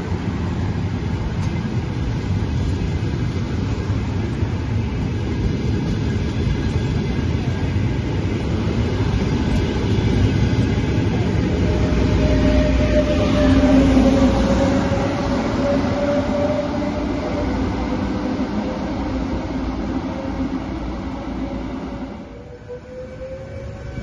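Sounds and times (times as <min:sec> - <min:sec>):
train wheels rumbling on rails: 0:00.0 - 0:24.0
train whine: 0:00.0 - 0:24.0.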